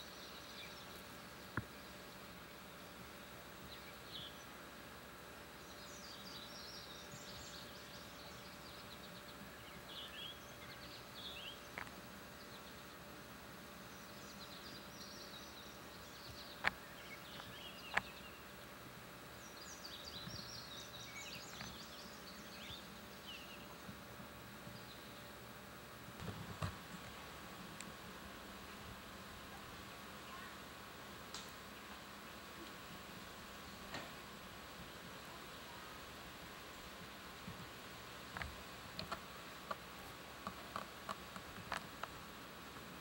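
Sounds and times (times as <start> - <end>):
faint birds chirping: 0.0 - 43.0
steady low hiss: 0.0 - 43.0.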